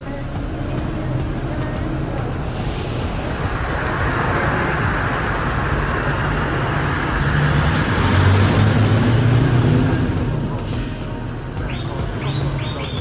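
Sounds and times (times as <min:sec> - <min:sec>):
truck passing: 0:00.0 - 0:13.0.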